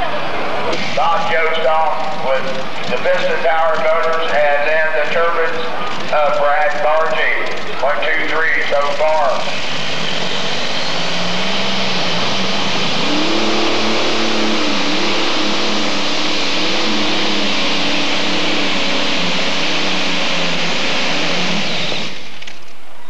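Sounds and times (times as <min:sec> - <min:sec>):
tractor engine roaring: 0:00.0 - 0:23.0.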